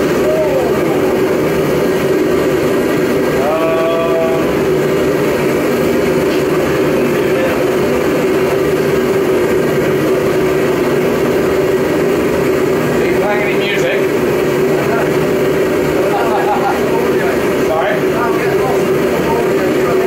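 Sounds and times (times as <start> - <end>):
forge rushing with low hum: 0.0 - 20.0.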